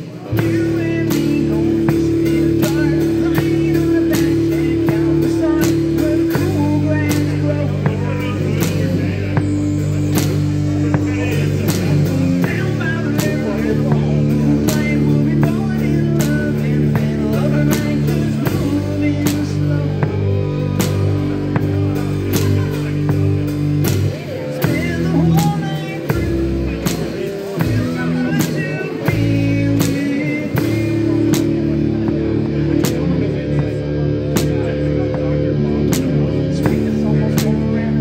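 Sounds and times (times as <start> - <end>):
drum kit beat: 0.0 - 38.0
electric guitar: 0.0 - 38.0
low bass notes: 0.0 - 38.0.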